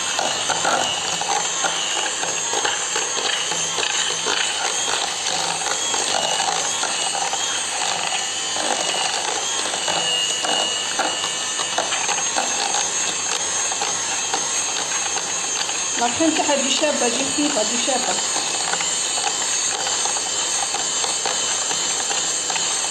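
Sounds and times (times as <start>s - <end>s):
electric hand mixer running: 0.0s - 22.9s.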